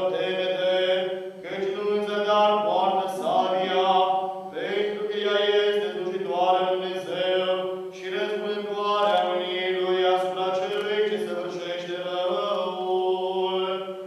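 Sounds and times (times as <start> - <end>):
voices chanting slow melody: 0.0 - 14.0.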